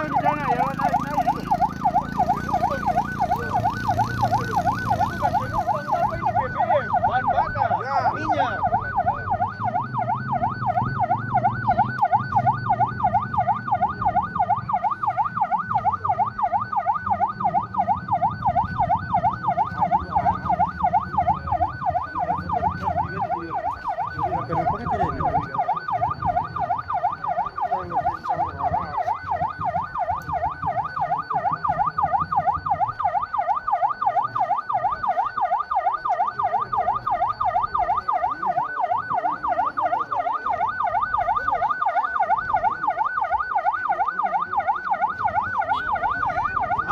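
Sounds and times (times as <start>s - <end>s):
electronic siren yelping: 0.0s - 46.9s.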